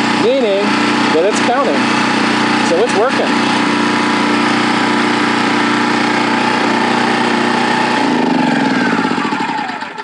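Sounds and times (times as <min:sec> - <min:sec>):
engine winding down: 0:00.0 - 0:10.0
generator engine running: 0:00.0 - 0:10.0.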